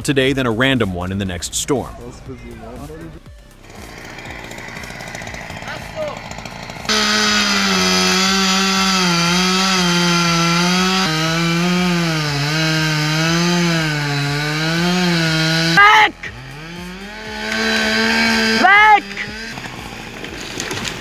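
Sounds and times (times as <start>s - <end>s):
chainsaw cutting wood: 3.4s - 21.0s.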